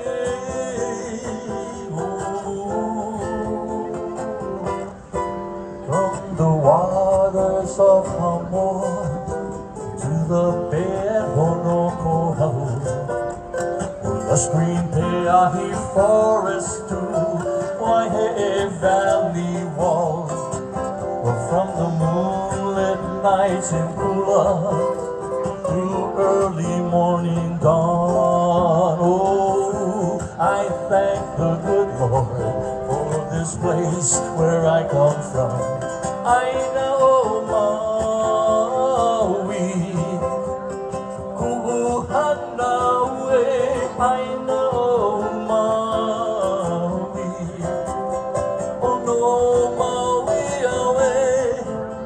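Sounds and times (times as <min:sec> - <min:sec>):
ukulele plucked melody: 0:00.0 - 0:52.0.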